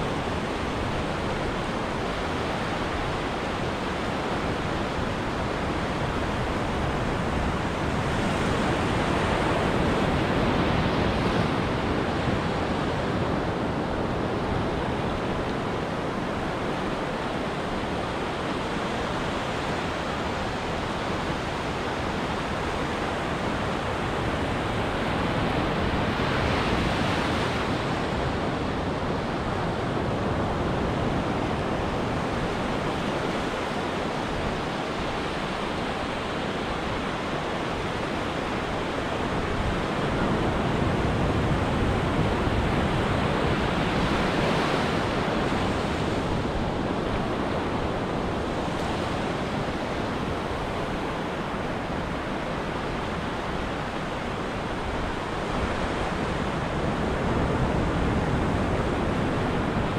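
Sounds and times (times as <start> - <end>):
ocean surf breaking waves: 0.1 - 59.9.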